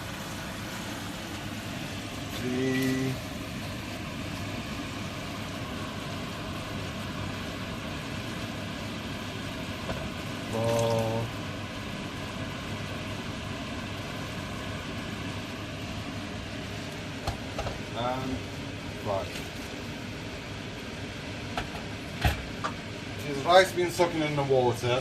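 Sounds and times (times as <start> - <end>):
boiling water pouring: 0.0 - 25.0
hiss from a pan: 0.0 - 25.0.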